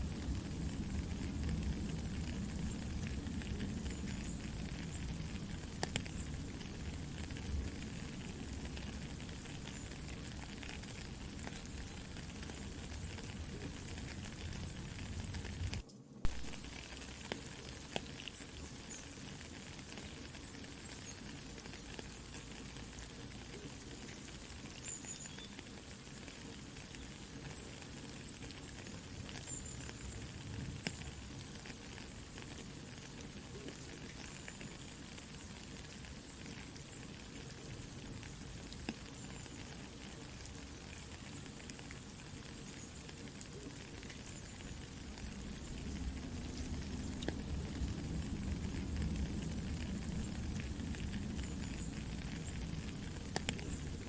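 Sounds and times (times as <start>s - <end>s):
campfire crackling: 0.0s - 54.0s
soft steady rain: 0.0s - 54.0s.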